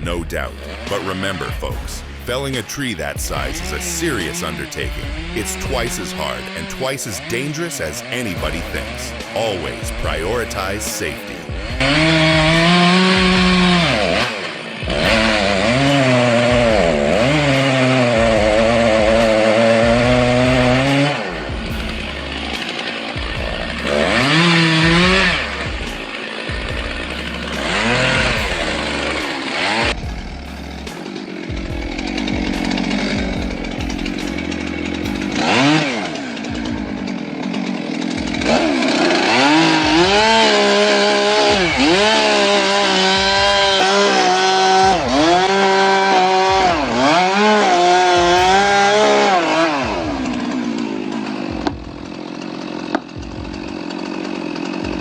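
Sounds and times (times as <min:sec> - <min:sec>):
chainsaw cutting into tree: 0:00.0 - 0:55.0.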